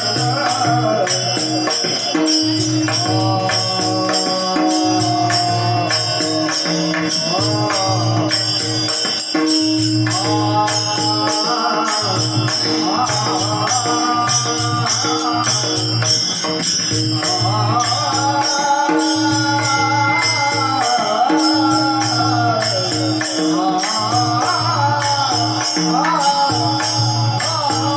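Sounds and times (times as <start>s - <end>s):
fast percussion beat: 0.0s - 27.9s.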